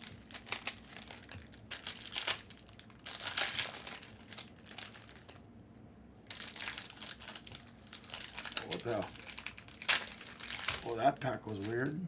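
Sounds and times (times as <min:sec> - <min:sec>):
foil wrappers crinkling and tearing: 0:00.0 - 0:05.5, 0:06.2 - 0:12.0.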